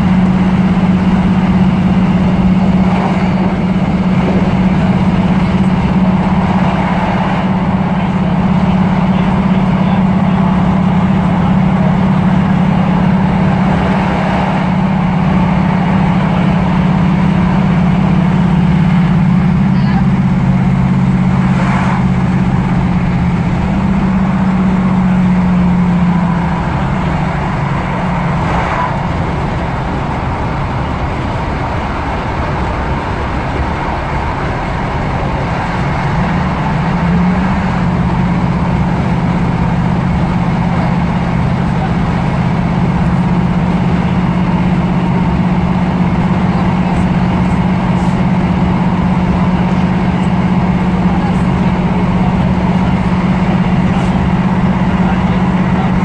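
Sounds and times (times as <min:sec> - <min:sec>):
electric train traction hum: 0:00.0 - 0:56.0
train running noise: 0:00.0 - 0:56.0.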